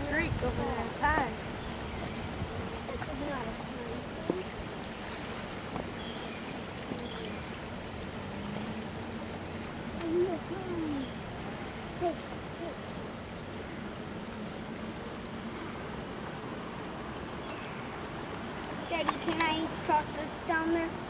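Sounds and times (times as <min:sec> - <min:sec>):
high insect trill: 0:00.0 - 0:21.0
rushing floodwater: 0:00.0 - 0:21.0.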